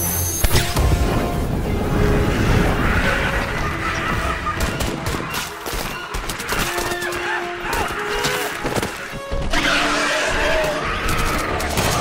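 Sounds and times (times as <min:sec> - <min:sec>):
dramatic film music: 0:00.0 - 0:12.0.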